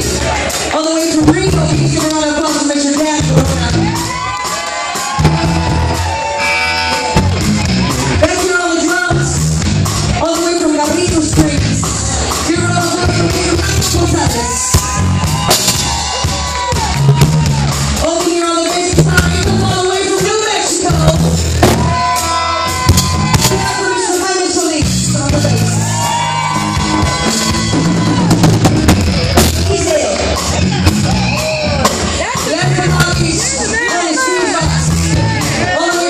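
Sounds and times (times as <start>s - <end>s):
drum kit with cymbals: 0.0s - 36.0s
electric bass: 0.0s - 36.0s.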